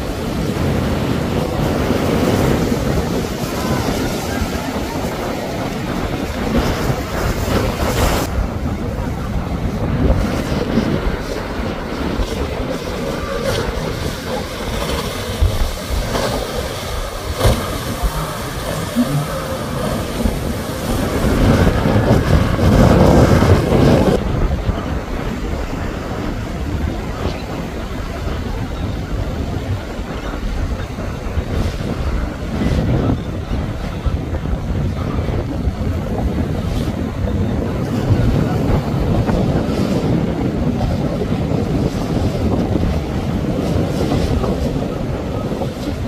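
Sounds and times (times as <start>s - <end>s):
motorboat engines running: 0.0s - 46.0s
water rushing past hulls: 0.0s - 46.0s
wind buffeting microphone: 0.0s - 46.0s.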